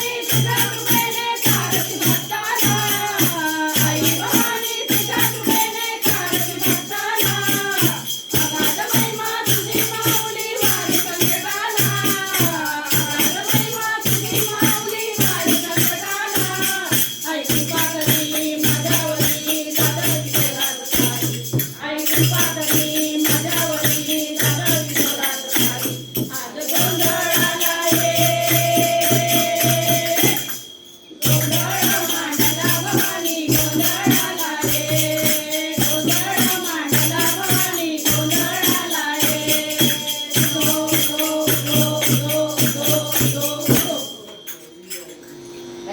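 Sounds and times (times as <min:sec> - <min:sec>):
fast steady percussion: 0:00.0 - 0:45.1.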